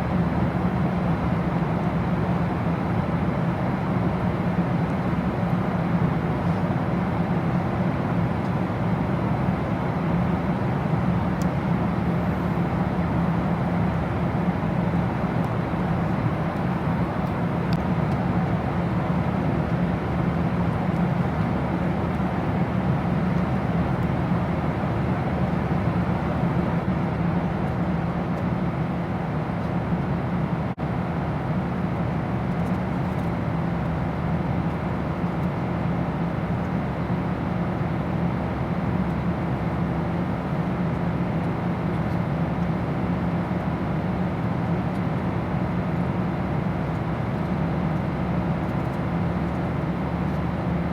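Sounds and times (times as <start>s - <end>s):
airliner cabin drone: 0.0s - 50.9s.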